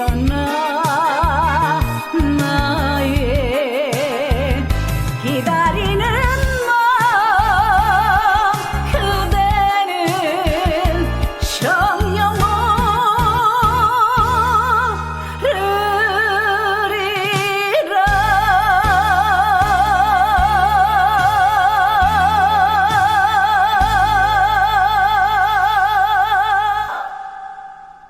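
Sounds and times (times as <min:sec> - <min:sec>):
pop song with synth backing: 0:00.0 - 0:28.0
singing with vibrato: 0:00.0 - 0:28.0.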